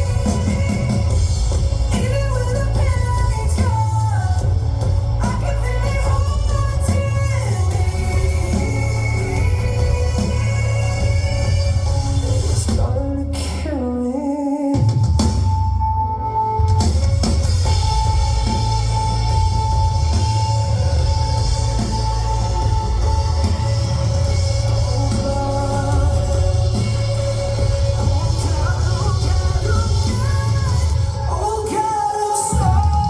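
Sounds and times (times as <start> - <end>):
rock music with drums and guitar: 0.0 - 33.0.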